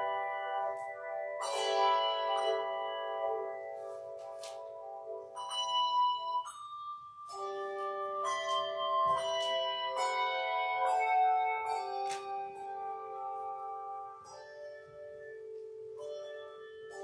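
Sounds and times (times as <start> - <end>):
handbell choir ringing chords: 0.0 - 17.0.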